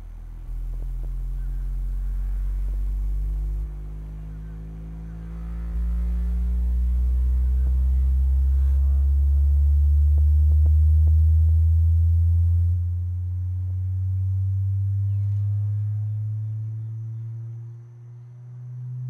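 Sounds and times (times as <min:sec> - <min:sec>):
bass frequency sweep: 0:00.0 - 0:19.0.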